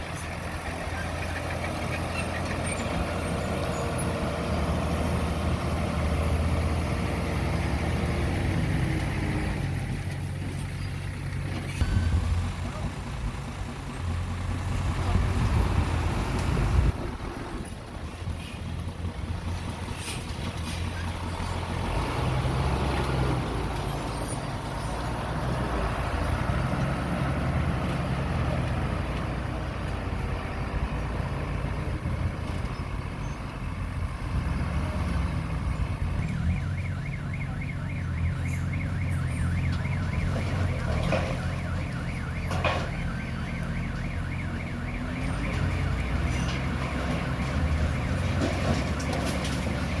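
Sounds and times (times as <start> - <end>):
diesel engine of earthmoving equipment: 0.0 - 50.0.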